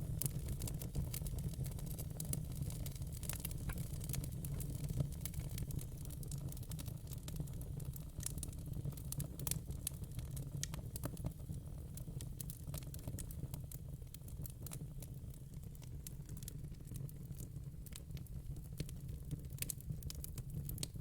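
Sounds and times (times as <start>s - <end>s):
low rumble of flames: 0.0s - 21.0s
wood fire popping and snapping: 0.0s - 21.0s.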